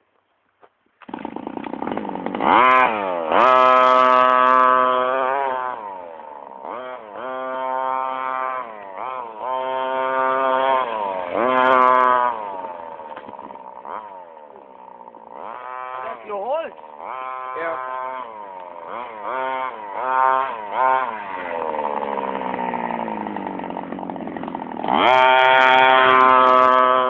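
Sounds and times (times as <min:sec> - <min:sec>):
small two-stroke engine revving: 0:01.0 - 0:27.0.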